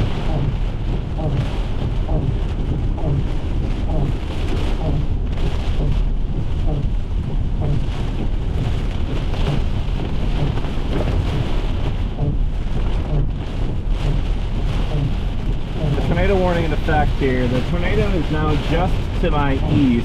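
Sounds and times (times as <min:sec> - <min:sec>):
heavy rain on car windshield: 0:00.0 - 0:20.0
road and wind noise rumble: 0:00.0 - 0:20.0.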